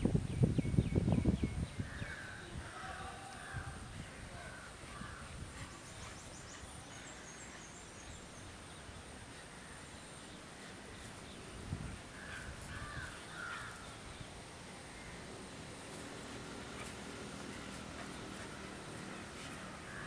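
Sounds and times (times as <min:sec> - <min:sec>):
faint birds calling: 0:01.2 - 0:20.0.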